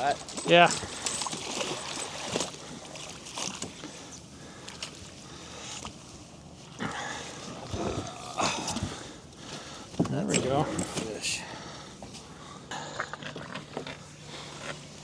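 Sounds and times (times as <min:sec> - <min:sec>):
water around boat: 0:00.0 - 0:15.0
wind: 0:00.0 - 0:15.0.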